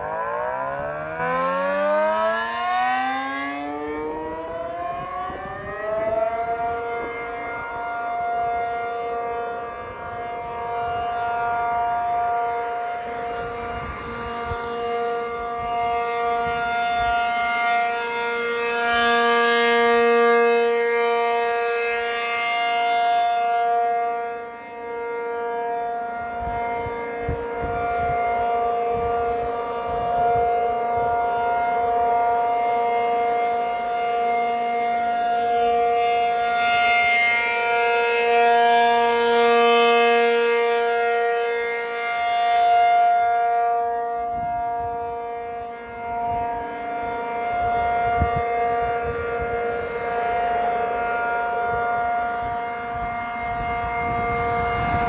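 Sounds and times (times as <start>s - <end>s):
rotating warning siren: 0.0s - 55.0s.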